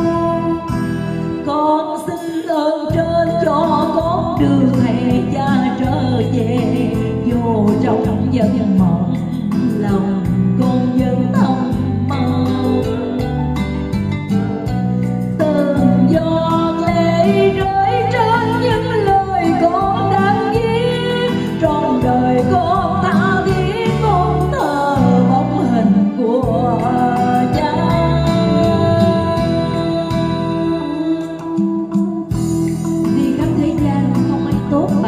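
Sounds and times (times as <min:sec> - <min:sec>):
woman singing with vibrato: 0:00.0 - 0:13.8, 0:15.3 - 0:35.0
instrumental accompaniment: 0:00.0 - 0:35.0.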